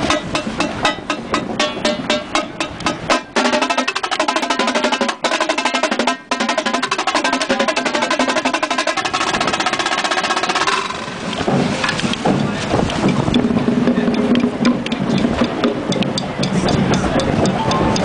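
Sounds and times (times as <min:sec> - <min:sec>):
marching tenor drums: 0:00.0 - 0:17.9.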